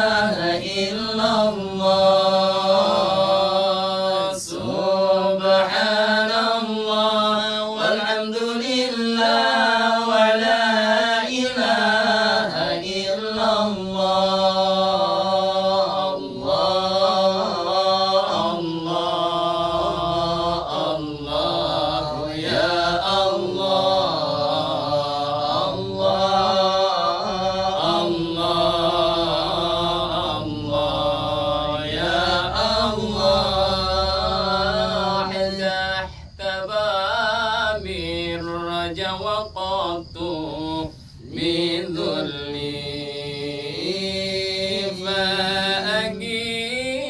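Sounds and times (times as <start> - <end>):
men chanting devotional song: 0.0 - 47.0.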